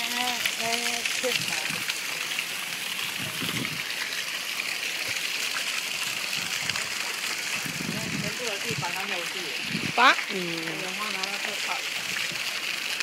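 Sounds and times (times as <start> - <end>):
water gushing and splashing: 0.0 - 13.0.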